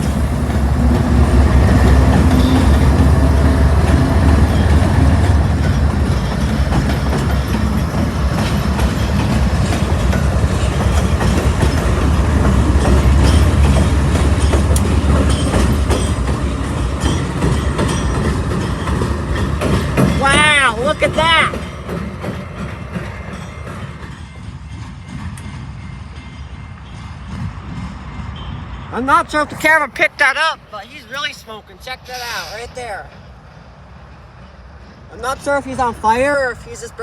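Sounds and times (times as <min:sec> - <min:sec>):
diesel locomotives rumbling: 0:00.0 - 0:37.0
train wheels clacking on rails: 0:00.0 - 0:37.0.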